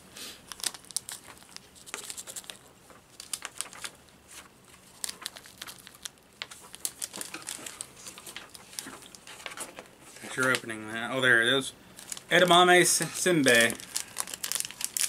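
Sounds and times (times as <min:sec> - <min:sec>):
plastic packet crinkling: 0:00.4 - 0:10.7, 0:11.9 - 0:15.0.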